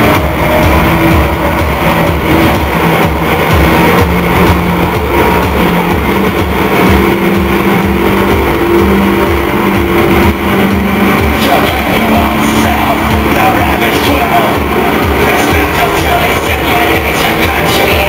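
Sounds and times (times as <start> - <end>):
industrial band music through pa: 0.0 - 18.0
low synth bass notes: 0.0 - 18.0
pounding kick drum beat: 0.0 - 18.0.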